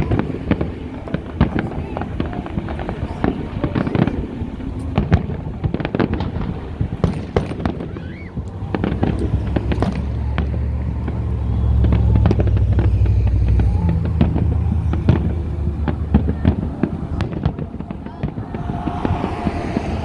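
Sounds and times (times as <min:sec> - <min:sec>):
fireworks popping and crackling: 0:00.0 - 0:20.0.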